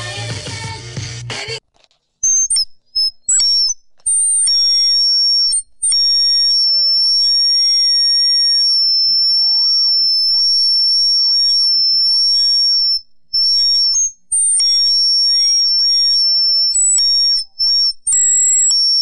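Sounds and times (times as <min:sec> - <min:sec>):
high-pitched electronic whine: 0:02.2 - 0:19.0.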